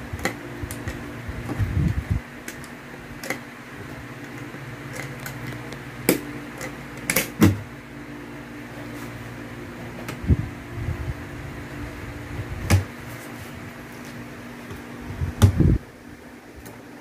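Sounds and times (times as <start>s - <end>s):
fan hum: 0.0s - 17.0s.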